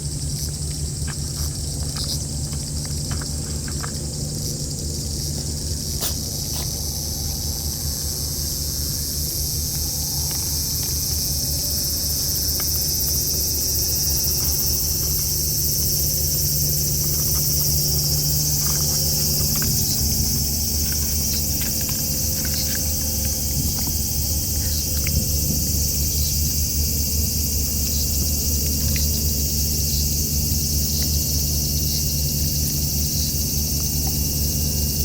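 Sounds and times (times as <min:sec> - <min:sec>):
constant low hum: 0:00.0 - 0:35.0
high-pitched insect chorus: 0:00.0 - 0:35.0.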